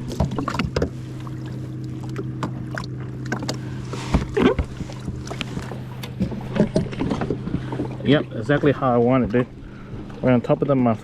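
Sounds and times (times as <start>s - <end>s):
clicks and knocks handling fish: 0.0s - 10.3s
steady low hum: 0.0s - 11.0s.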